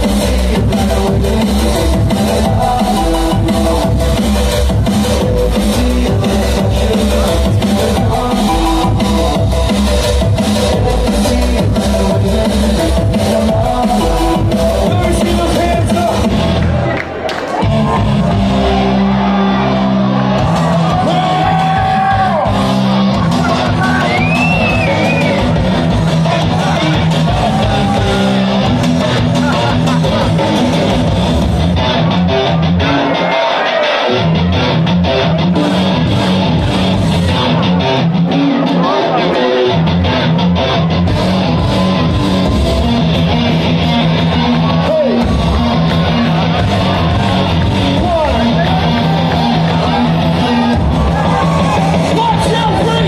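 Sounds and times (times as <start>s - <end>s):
crowd shouting and whooping: 0.0s - 53.0s
electronic dance music: 0.0s - 53.0s.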